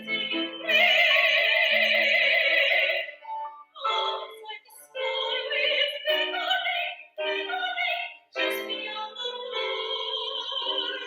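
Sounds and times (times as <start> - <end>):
piano accompaniment: 0.0 - 11.0
soprano singing operatically: 0.0 - 11.0.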